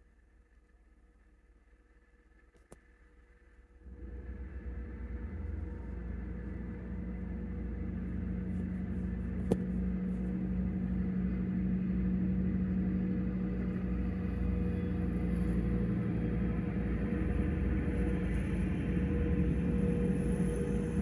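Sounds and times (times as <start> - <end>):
diesel train passing: 3.8 - 21.0.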